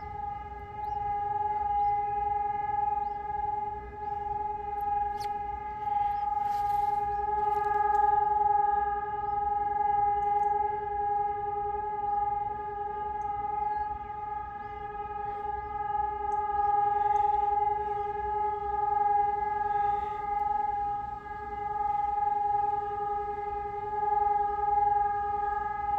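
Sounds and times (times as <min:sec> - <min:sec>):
sirens steady continuous tone: 0:00.0 - 0:25.9.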